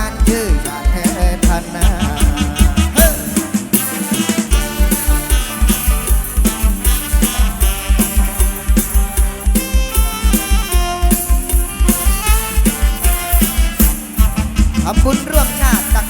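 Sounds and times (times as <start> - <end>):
melodic instrumental line: 0.0 - 16.0.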